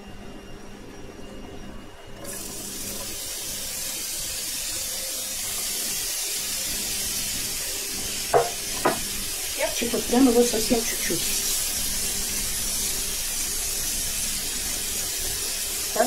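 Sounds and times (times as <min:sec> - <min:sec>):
peppers sizzling in frying pan: 0:02.2 - 0:16.0.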